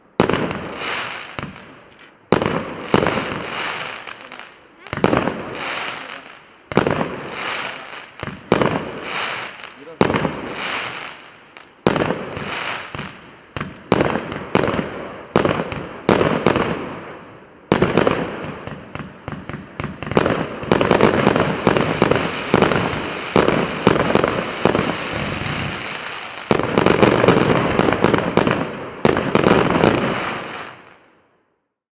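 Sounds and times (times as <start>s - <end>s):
firework cake firing shots: 0.2s - 11.2s, 11.9s - 31.0s.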